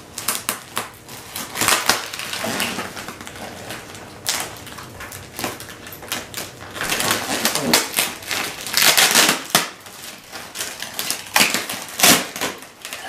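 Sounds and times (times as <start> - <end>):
plastic bag crinkling: 0.1 - 13.0
scissors cutting plastic: 0.2 - 13.0.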